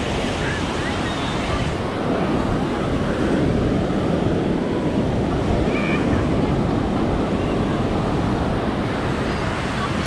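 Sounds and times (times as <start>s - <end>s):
ocean surf washing onto beach: 0.0s - 10.0s
wind buffeting microphone: 0.0s - 10.0s.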